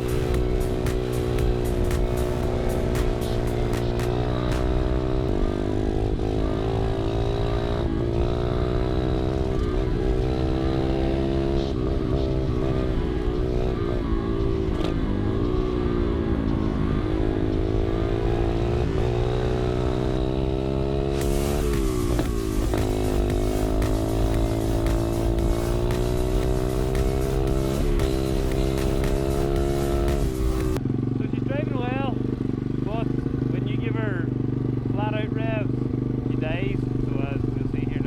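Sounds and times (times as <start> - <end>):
pit bike engine revving: 0.0 - 38.0.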